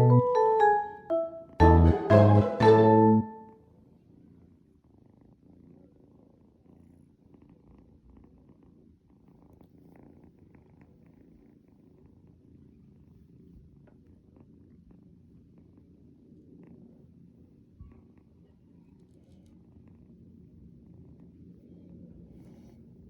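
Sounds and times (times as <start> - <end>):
kitten purring: 4.4 - 23.0.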